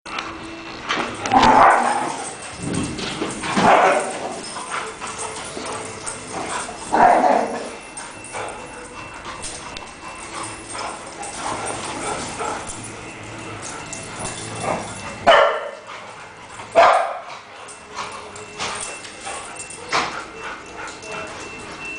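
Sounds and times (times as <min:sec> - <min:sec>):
dogs barking and yipping: 0:00.1 - 0:21.9.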